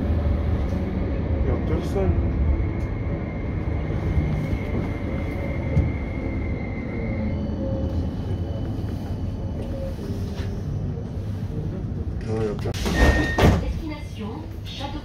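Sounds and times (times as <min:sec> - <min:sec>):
tram wheels rumbling on rail: 0:00.0 - 0:15.0.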